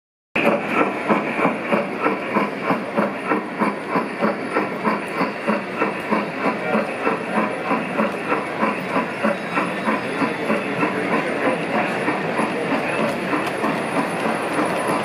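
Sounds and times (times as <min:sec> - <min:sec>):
model steam locomotive chuffing: 0:00.4 - 0:15.0.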